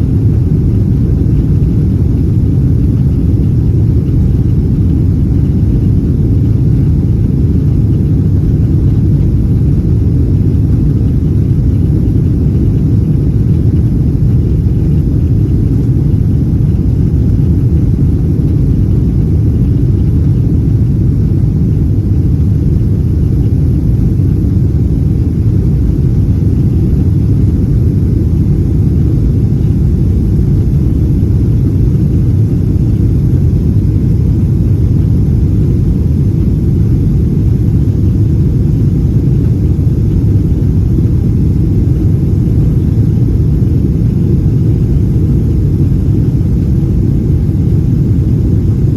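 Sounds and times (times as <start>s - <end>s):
airliner cabin engine rumble: 0.0s - 48.9s.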